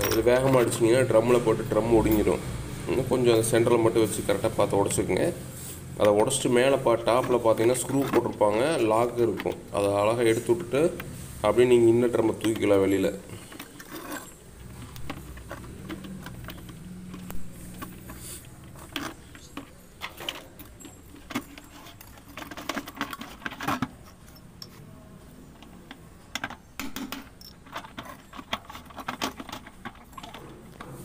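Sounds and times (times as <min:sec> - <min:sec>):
plastic parts clicking and knocking: 0:06.0 - 0:31.0.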